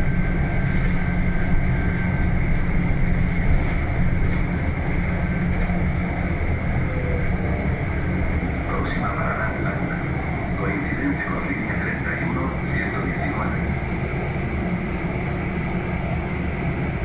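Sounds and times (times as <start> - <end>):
bus engine droning: 0.0 - 17.0
road noise: 0.0 - 17.0.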